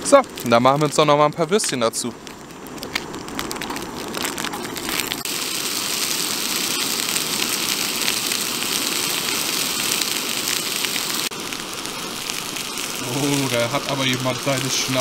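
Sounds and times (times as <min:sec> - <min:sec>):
sausages sizzling in hot oil: 0:00.0 - 0:15.0.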